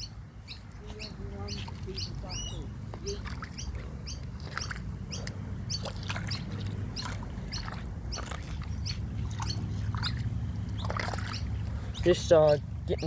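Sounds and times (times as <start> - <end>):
small bird chirping: 0.0 - 13.0
steady low rumble: 0.0 - 13.0.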